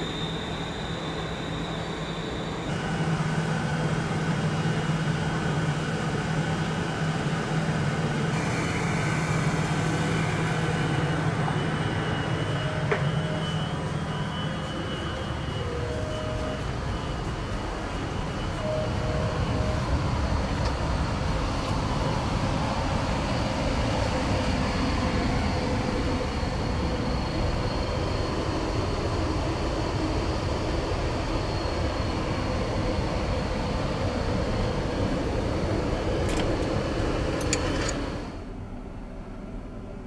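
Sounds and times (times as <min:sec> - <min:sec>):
faint high whine: 0:00.0 - 0:40.0
train carriage rumble: 0:00.0 - 0:40.0.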